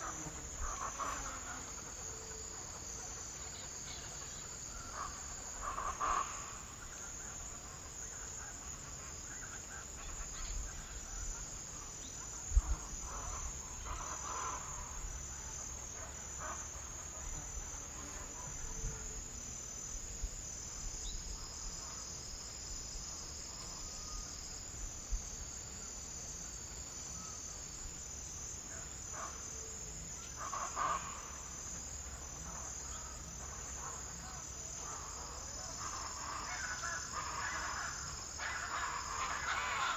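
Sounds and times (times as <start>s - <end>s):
insects chirping chorus: 0.0s - 39.9s.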